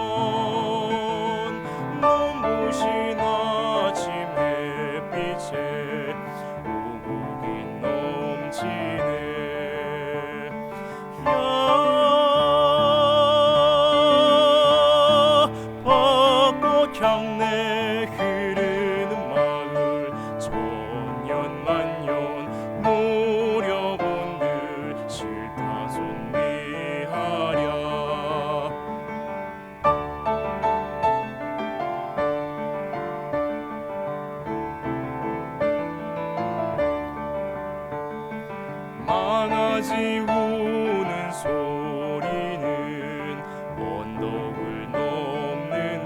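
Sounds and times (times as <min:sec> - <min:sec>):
man singing with vibrato: 0:00.0 - 0:33.7, 0:38.8 - 0:46.0
piano accompaniment: 0:00.0 - 0:46.0.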